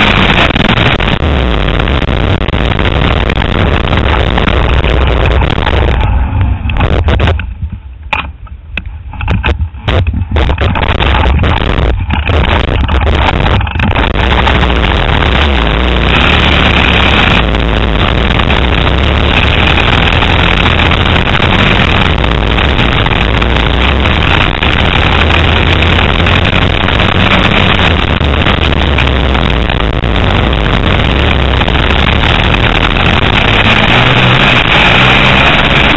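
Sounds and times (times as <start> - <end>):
motocross bike engine running: 0.0 - 7.4, 9.3 - 35.9.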